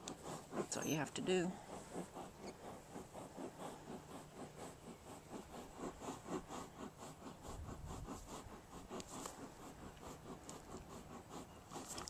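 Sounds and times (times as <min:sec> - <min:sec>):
horse breathing hard: 0:00.0 - 0:12.0.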